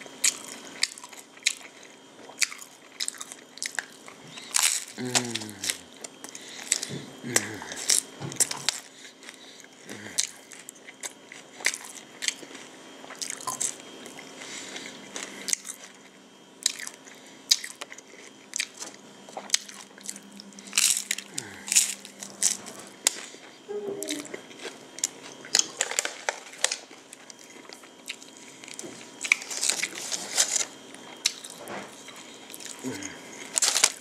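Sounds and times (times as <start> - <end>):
crunchy taco chewing: 0.0 - 34.0.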